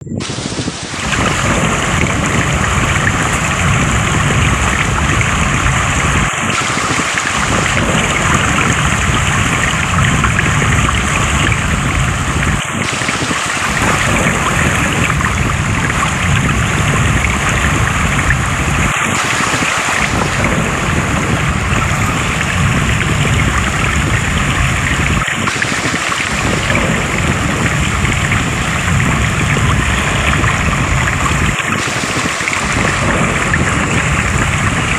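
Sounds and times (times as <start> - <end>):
water rushing: 0.0 - 34.9.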